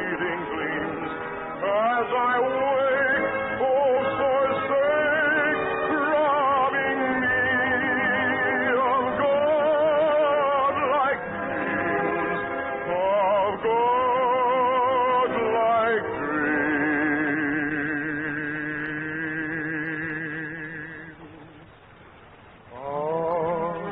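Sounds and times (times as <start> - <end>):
orchestral opera music: 0.0 - 21.7, 22.6 - 23.9.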